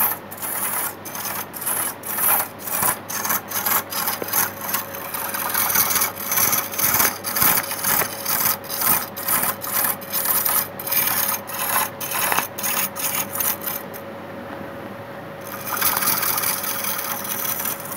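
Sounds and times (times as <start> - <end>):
lathe humming: 0.0 - 14.0, 15.4 - 17.9
tool scraping wood on lathe: 0.0 - 14.0, 15.4 - 17.9.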